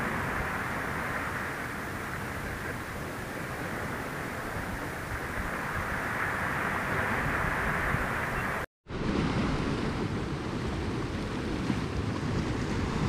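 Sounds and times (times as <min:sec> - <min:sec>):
surf washing over rocks: 0:00.0 - 0:13.0
wind on microphone: 0:00.0 - 0:13.0.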